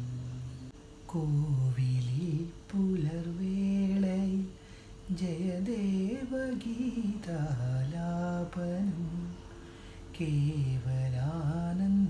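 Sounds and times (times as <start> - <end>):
man singing slow song: 0.0 - 12.0.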